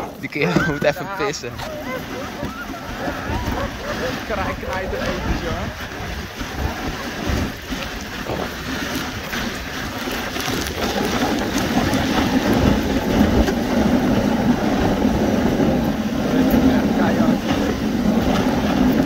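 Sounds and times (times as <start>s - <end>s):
sled runners scraping over snow: 0.0s - 19.0s
wind rumbling on microphone: 0.0s - 19.0s.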